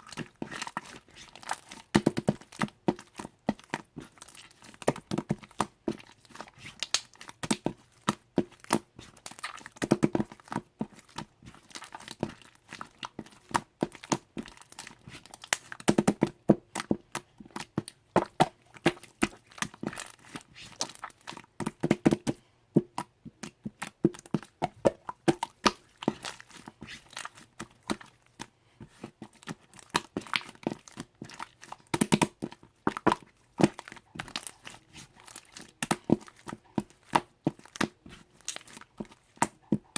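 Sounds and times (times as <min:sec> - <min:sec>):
slime squishing and popping: 0:00.0 - 0:39.9.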